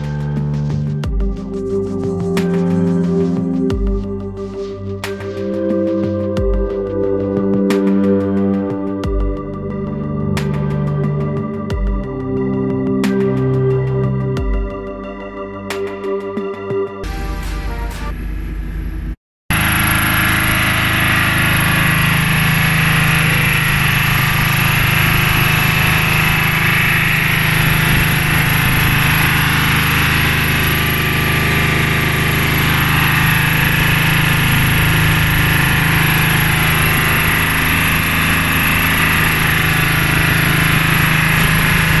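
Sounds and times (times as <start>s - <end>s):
diesel engine running: 0.0s - 15.5s, 17.0s - 42.0s.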